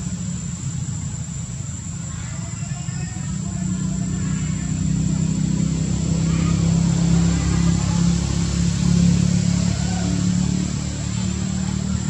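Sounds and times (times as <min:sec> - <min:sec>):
engine running low hum: 0:00.0 - 0:12.0.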